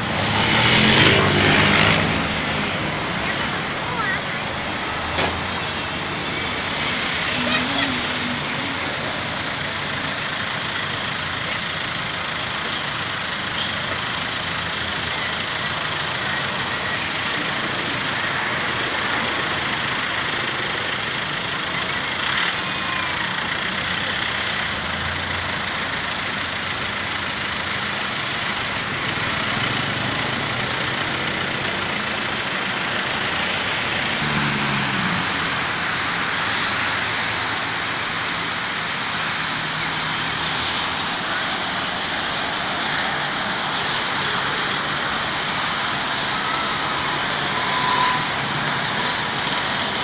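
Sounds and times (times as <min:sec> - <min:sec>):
vehicle engine hum: 0:00.0 - 0:50.0.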